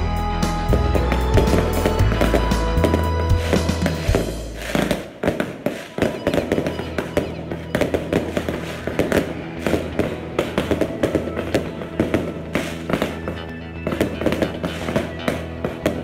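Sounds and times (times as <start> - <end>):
firecrackers and bottle rockets bangs: 0.6 - 16.0.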